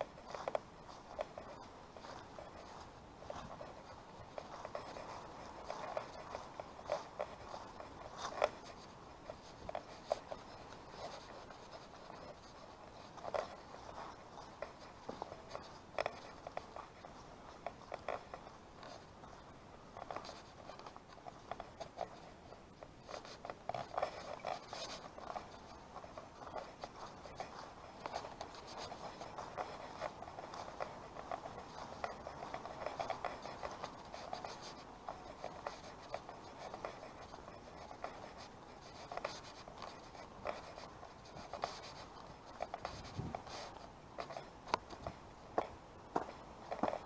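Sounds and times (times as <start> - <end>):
footsteps on paving and grass: 0.0 - 47.0.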